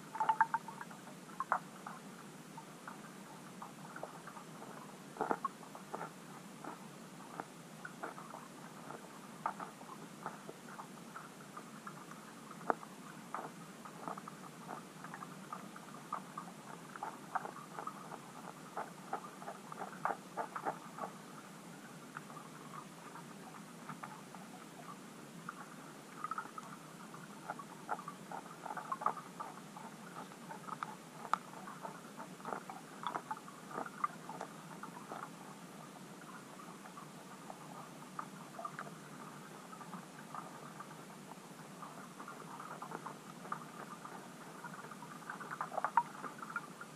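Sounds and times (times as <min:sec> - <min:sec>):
underwater clicking and ticking: 0:00.0 - 0:46.9.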